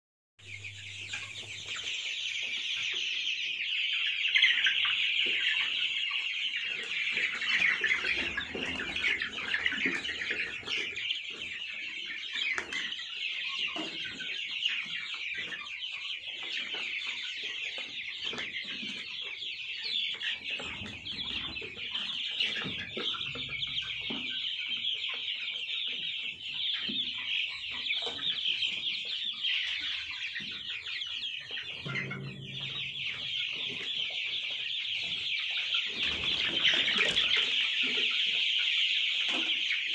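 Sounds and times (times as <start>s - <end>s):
chicks peeping and cheeping: 0.4s - 39.9s.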